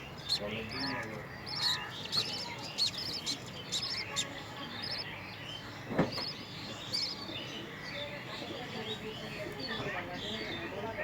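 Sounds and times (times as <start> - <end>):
budgerigars chirping: 0.0 - 10.6.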